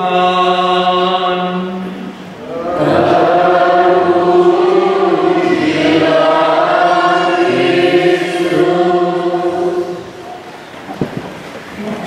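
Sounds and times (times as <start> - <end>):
choir and congregation singing: 0.0 - 10.5.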